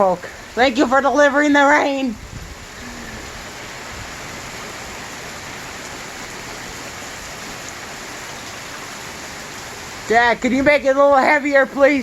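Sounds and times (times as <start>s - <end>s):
heavy rain pattering: 0.0s - 12.0s.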